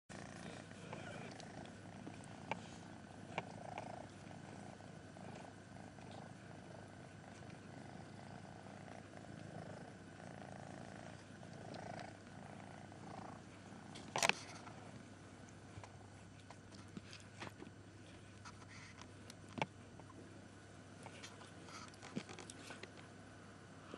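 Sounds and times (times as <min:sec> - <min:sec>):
cat purring: 0:00.1 - 0:23.2.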